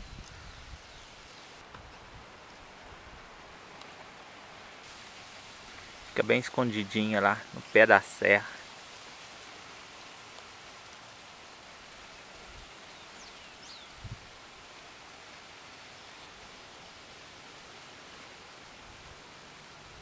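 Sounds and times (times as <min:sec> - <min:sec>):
wind through leaves: 0:00.0 - 0:20.0.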